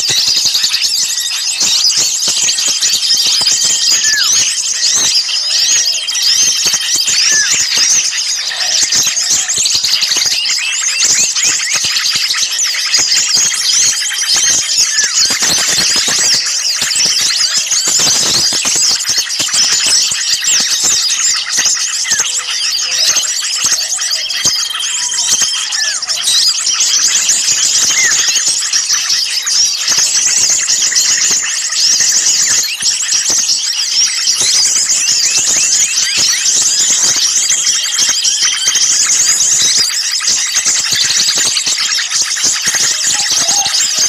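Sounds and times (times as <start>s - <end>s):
small songbirds chirping: 0.0s - 44.0s.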